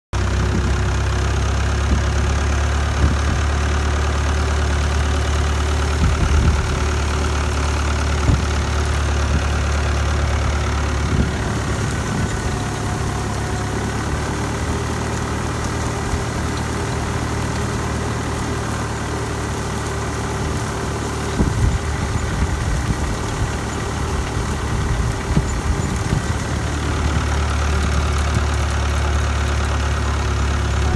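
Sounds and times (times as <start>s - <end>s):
tractor engine running: 0.1s - 30.9s.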